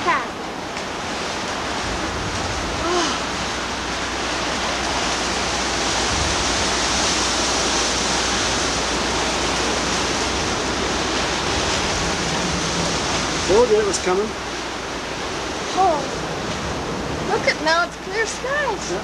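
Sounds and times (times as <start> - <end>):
loud rushing wind: 0.0 - 19.0.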